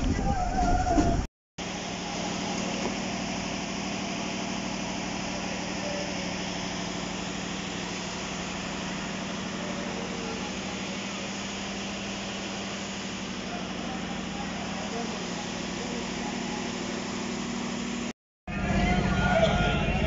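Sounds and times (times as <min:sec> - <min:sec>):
diesel engine idling: 0:01.6 - 0:20.0.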